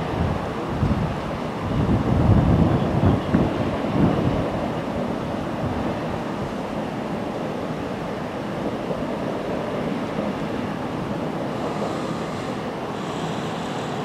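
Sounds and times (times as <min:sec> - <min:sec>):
water gushing from hydrant: 0:00.0 - 0:14.0.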